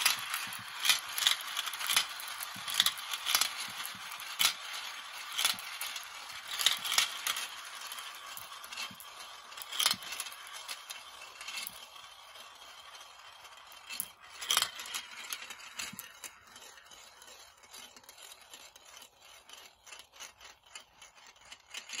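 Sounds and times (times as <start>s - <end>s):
marbles clicking together: 0.0s - 22.0s
marbles rolling in plastic bowl: 0.0s - 22.0s.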